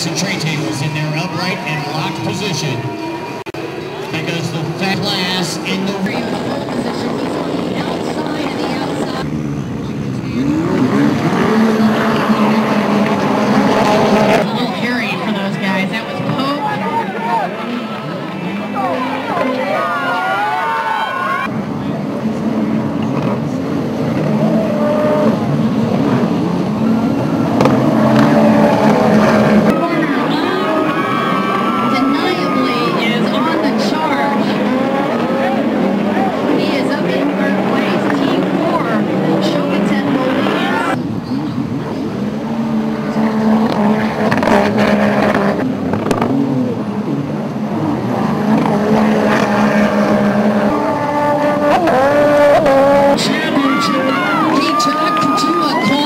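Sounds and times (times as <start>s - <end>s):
jet ski engines revving: 0.0s - 56.0s.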